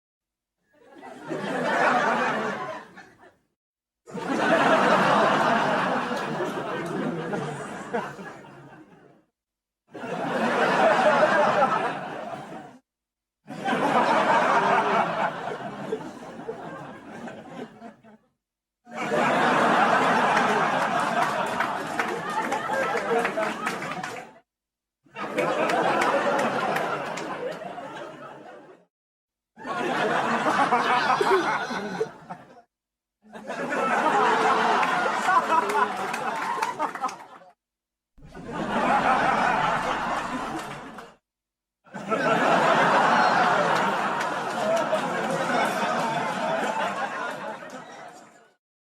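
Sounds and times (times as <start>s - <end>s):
laugh track laughter: 0.8s - 3.4s, 4.1s - 9.2s, 9.9s - 12.8s, 13.5s - 18.3s, 18.9s - 24.4s, 25.1s - 28.9s, 29.6s - 32.7s, 33.3s - 37.6s, 38.2s - 41.2s, 41.9s - 48.4s.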